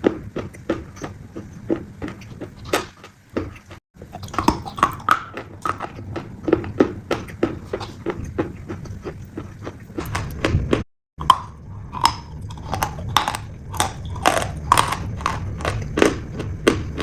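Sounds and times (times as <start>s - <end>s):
piglet chewing crunchy food: 0.0s - 17.0s.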